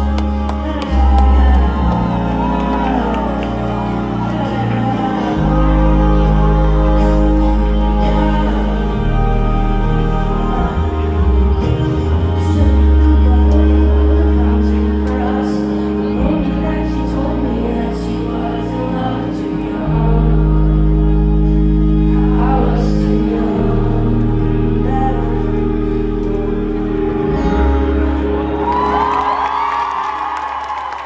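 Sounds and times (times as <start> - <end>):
person singing: 0.0 - 29.6
live band playing pop song: 0.0 - 30.6.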